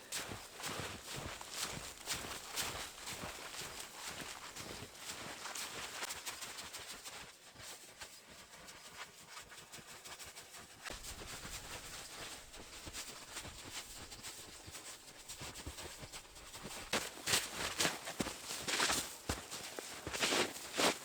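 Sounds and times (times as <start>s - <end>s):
footsteps crunching in snow: 0.0s - 8.6s, 10.9s - 21.0s.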